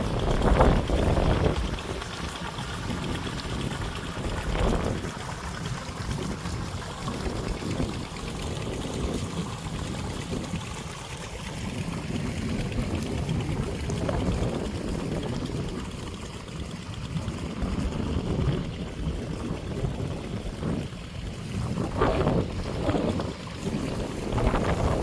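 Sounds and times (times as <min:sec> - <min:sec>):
irrigation water splashing: 0:00.0 - 0:25.0.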